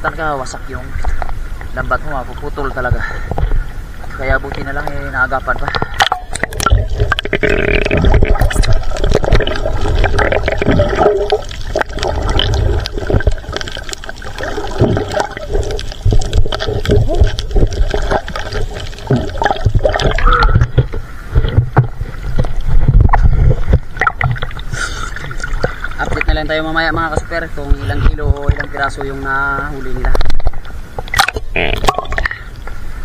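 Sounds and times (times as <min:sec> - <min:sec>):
muffled underwater rumble: 0:00.0 - 0:33.0
water sloshing and gurgling: 0:00.0 - 0:33.0
bubbles crackling: 0:00.7 - 0:32.7.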